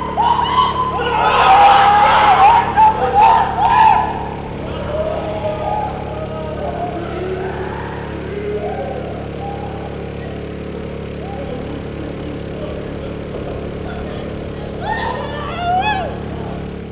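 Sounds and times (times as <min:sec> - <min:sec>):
street traffic engines humming: 0:00.0 - 0:16.9.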